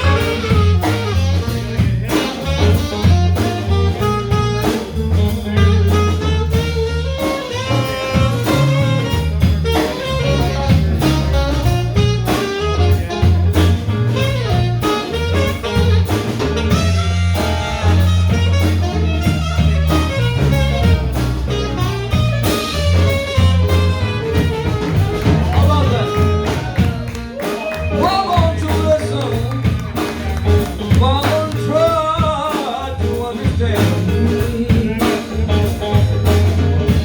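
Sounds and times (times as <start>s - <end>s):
lead instrument soloing: 0.0s - 32.8s
bass line: 0.0s - 37.0s
drums: 0.0s - 37.0s.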